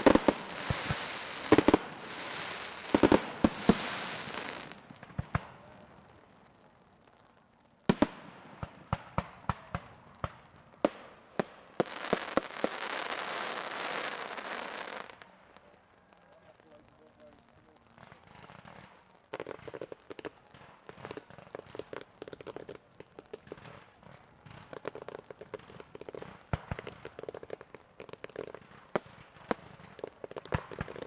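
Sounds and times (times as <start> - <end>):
fireworks bursting with bangs: 0.0 - 31.0
fireworks crackling: 0.0 - 31.0.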